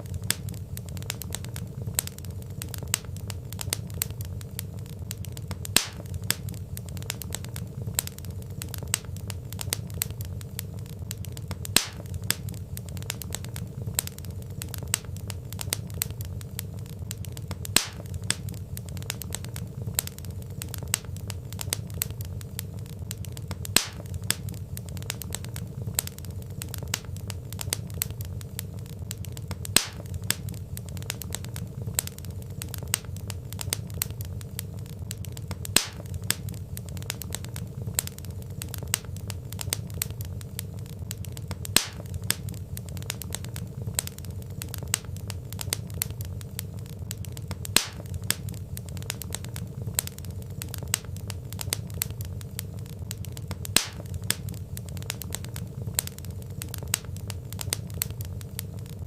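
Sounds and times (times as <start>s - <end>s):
logs popping: 0.0s - 59.0s
wood fire burning: 0.0s - 59.0s.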